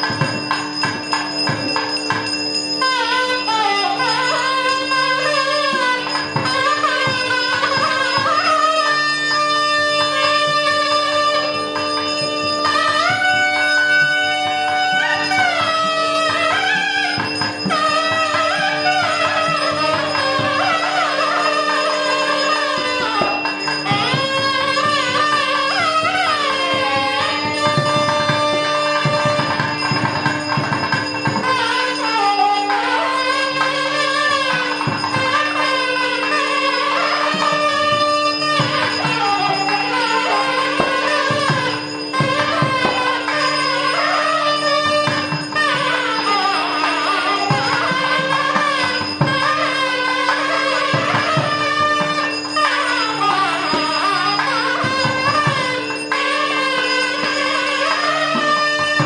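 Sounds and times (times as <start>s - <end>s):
drum strokes: 0.0s - 59.0s
sliding instrumental melody: 0.0s - 59.0s.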